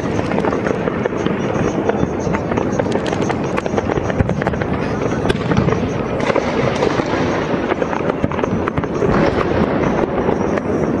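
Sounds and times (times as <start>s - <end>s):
fireworks and firecrackers crackling: 0.0s - 11.0s.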